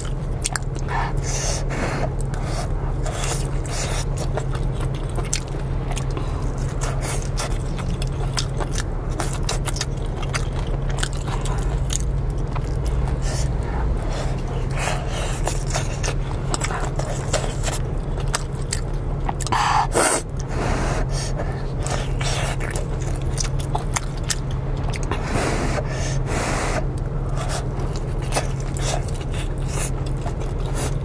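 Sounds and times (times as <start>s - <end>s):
person chewing noodles: 0.0s - 31.0s
steady low hum: 0.0s - 31.0s.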